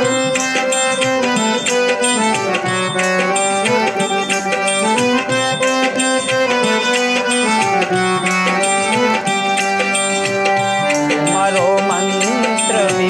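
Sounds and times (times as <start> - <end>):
melodic instrumental lines: 0.0 - 13.0
steady percussion beat: 0.0 - 13.0.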